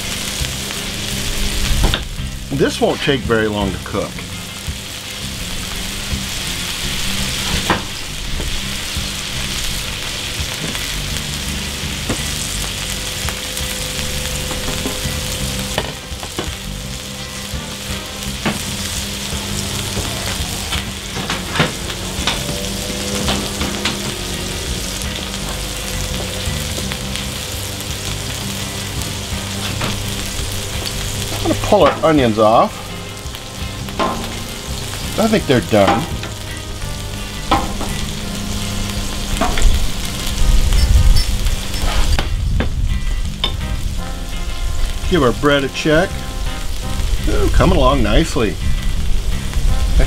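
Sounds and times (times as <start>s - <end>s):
meat and onions sizzling on griddle: 0.0s - 2.8s, 3.4s - 50.0s.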